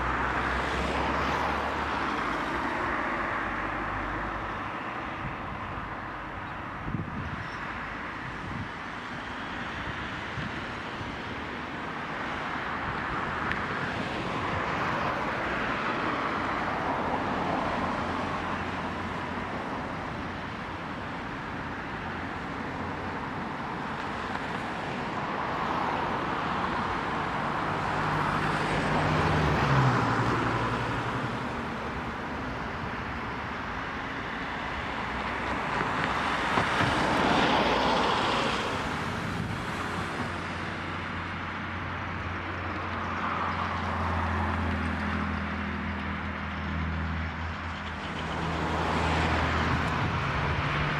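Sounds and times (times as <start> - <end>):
cars passing: 0.0 - 50.9.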